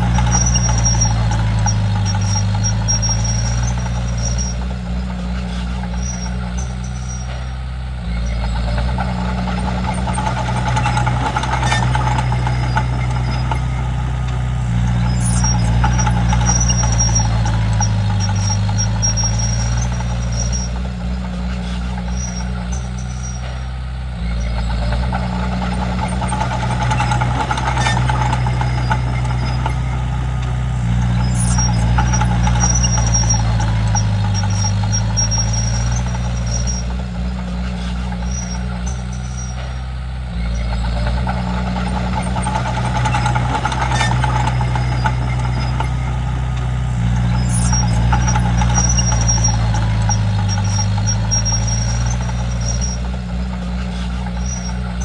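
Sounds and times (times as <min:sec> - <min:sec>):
bulldozer diesel engine running: 0:00.0 - 0:55.0
faint high squeaks: 0:00.0 - 0:55.0.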